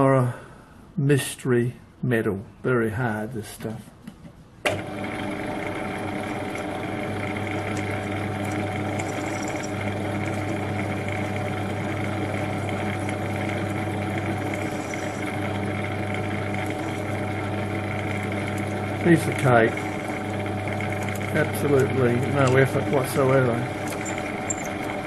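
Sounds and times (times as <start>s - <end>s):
metal lathe humming: 4.7s - 25.0s
drill boring into steel: 4.8s - 25.0s.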